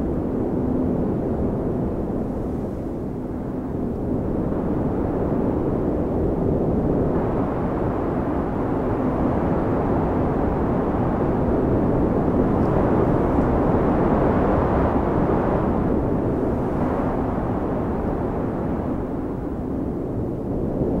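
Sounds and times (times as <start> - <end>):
snowstorm wind rushing: 0.0 - 21.0.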